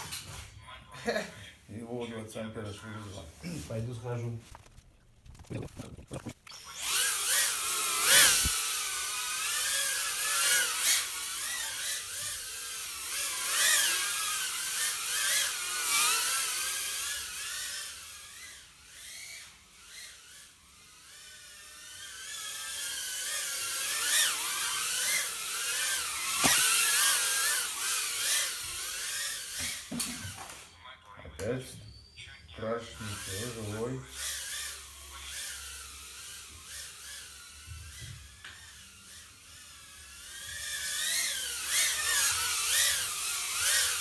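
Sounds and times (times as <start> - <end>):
drone motors whining: 4.4 - 30.8, 32.9 - 44.0.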